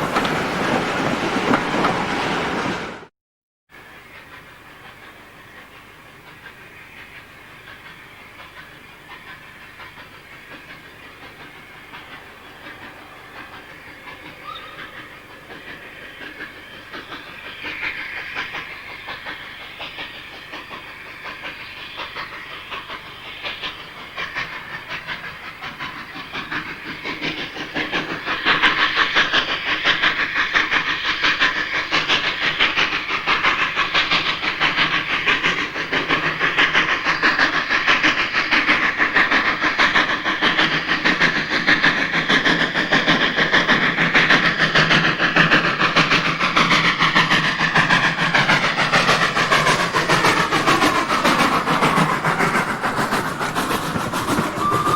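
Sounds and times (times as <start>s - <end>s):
steam hiss: 0.0s - 3.1s, 3.8s - 54.9s
steam locomotive hauling a train: 0.0s - 3.1s, 3.7s - 54.9s.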